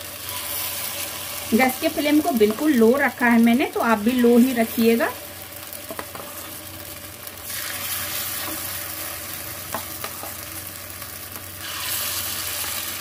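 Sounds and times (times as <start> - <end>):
batter sizzling in a pan: 0.0 - 13.0.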